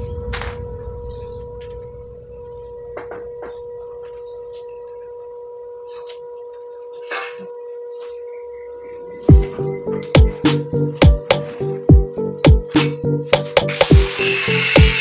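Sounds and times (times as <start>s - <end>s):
music holding a steady note: 0.0s - 15.0s.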